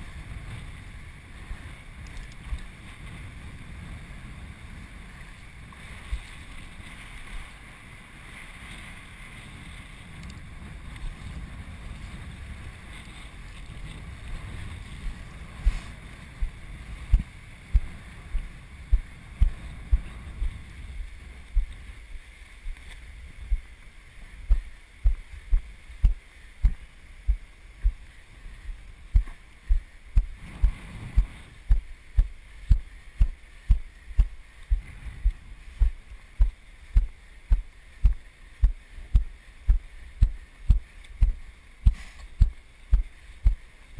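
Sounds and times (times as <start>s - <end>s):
wind rumbling on microphone: 0.0s - 43.9s
footsteps in shallow water: 5.3s - 43.9s.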